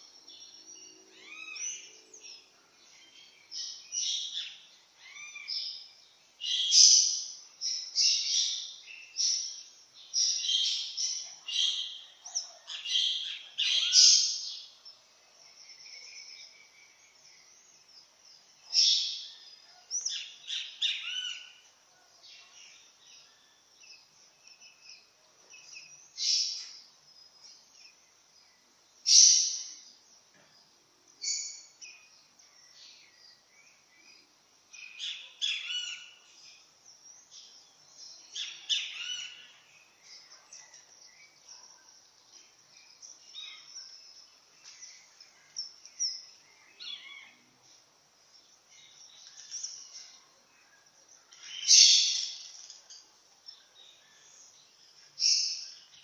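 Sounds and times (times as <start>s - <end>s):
faint bird chirping: 0.0s - 56.0s
songbirds singing: 0.0s - 56.0s.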